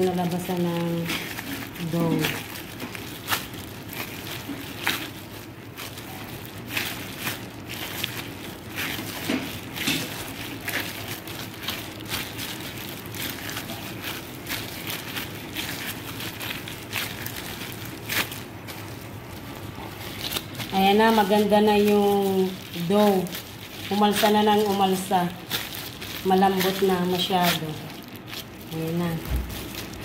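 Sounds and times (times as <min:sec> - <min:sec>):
dough pressing and slapping: 0:00.0 - 0:30.0
plastic wrap crackling: 0:00.0 - 0:30.0.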